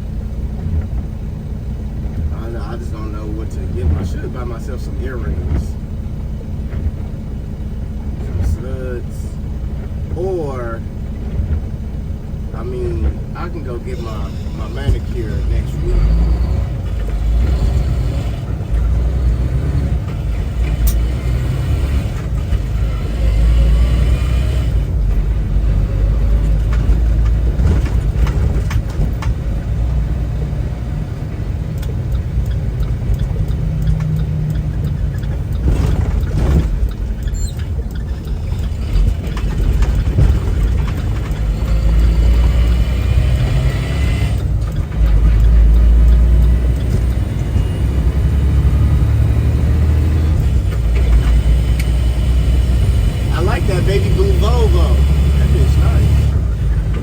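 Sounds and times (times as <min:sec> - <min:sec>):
road noise: 0:00.0 - 0:57.0
truck engine rumble: 0:00.0 - 0:57.0.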